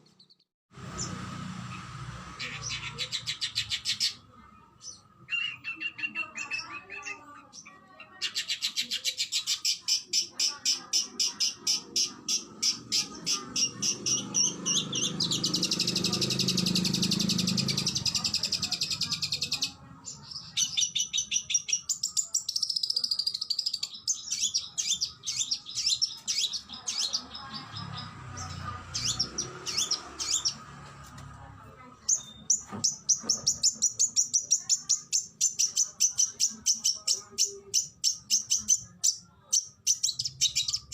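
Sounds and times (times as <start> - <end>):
bird singing: 4.8 - 30.8, 32.0 - 40.9.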